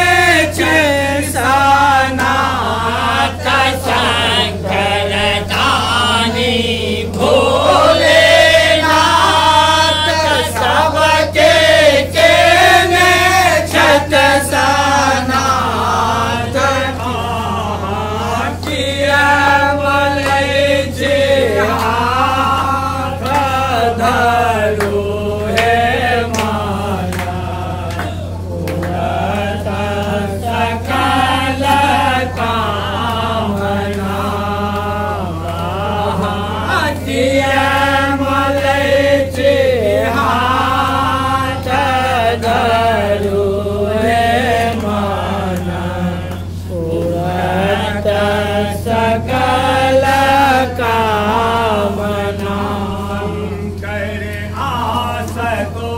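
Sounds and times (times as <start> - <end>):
person singing devotional song: 0.0 - 55.9
steady low hum: 0.0 - 55.9.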